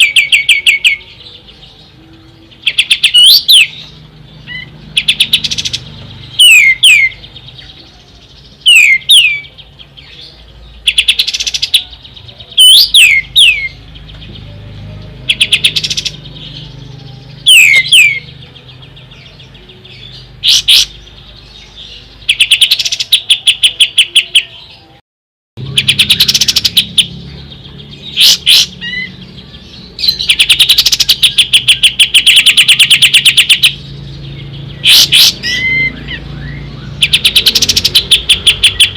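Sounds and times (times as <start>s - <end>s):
songbird singing: 0.0s - 25.0s, 25.6s - 38.9s.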